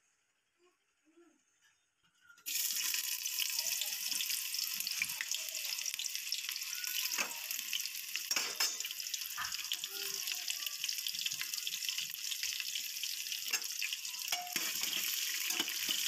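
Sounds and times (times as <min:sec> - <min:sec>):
hot oil sizzling in a pot: 0:02.5 - 0:16.0.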